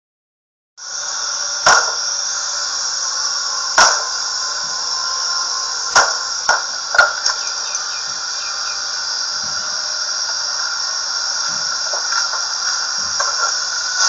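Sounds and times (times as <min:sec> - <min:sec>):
steady high hiss and whine: 0:00.8 - 0:14.0.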